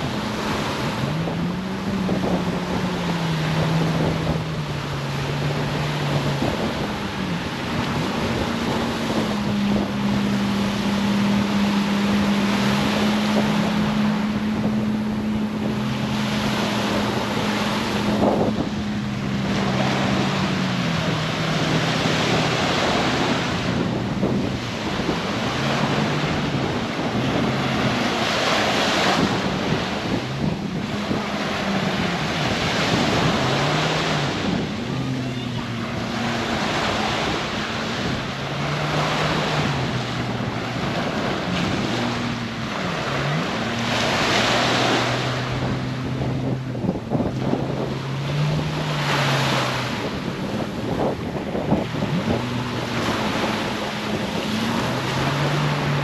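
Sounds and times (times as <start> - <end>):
motorboat engine droning: 0.0 - 56.0
surf washing onto beach: 0.0 - 56.0
wind on microphone: 0.0 - 56.0.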